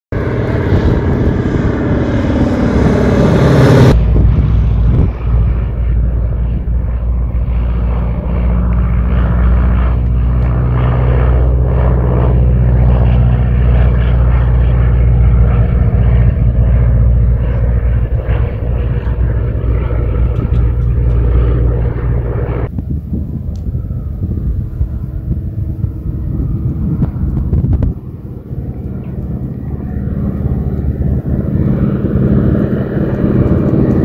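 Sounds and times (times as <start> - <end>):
propeller plane engine drone: 0.1 - 34.0.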